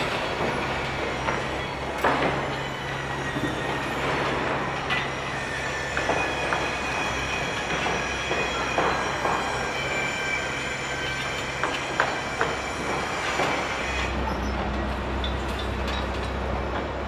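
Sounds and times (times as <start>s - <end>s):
knocks and clanks: 0.0s - 10.0s, 10.9s - 17.0s
heavy machinery hum: 0.0s - 17.0s.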